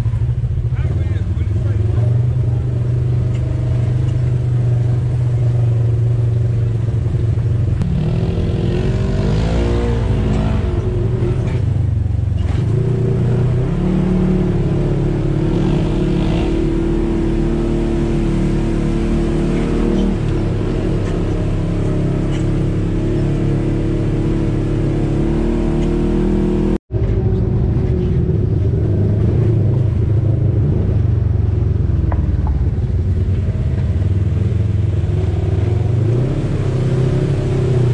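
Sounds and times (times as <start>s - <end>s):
off-road vehicle engine running: 0.0s - 37.9s.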